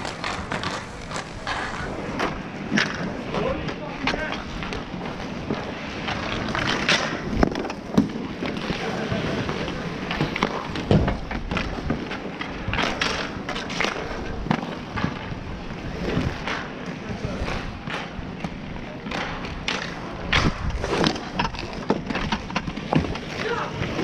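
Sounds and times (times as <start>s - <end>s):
hockey sticks clacking: 0.0s - 24.0s
skate wheels rolling on asphalt: 0.0s - 24.0s.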